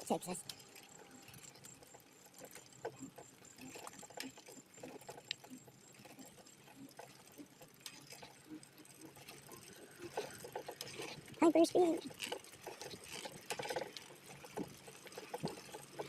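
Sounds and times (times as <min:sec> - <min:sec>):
ride clicking and rattling: 0:00.0 - 0:16.0.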